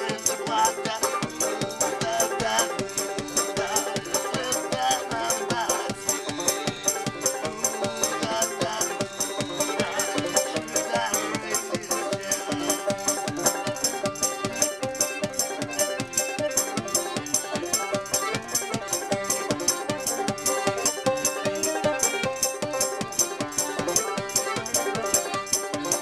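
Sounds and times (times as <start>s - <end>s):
banjo folk song: 0.0s - 26.0s.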